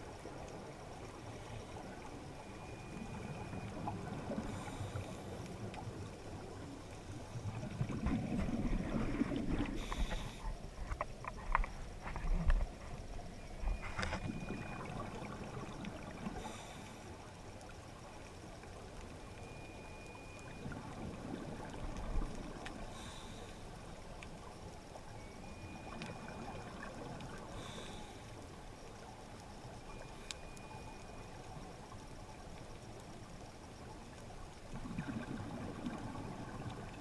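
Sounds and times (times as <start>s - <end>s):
underwater rush of water: 0.0s - 37.0s.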